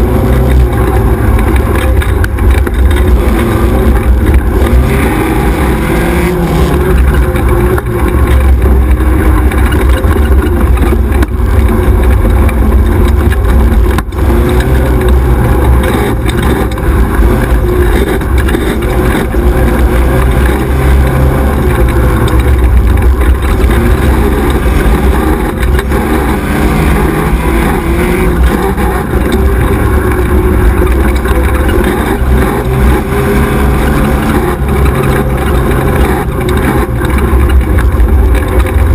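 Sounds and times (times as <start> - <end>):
buggy engine running hard: 0.0 - 38.9.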